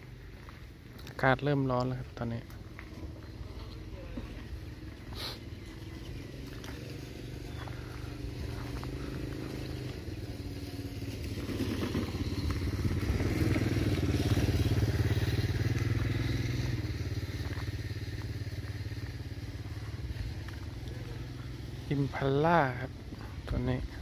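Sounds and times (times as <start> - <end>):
small motorcycle engine passing: 0.0 - 24.0.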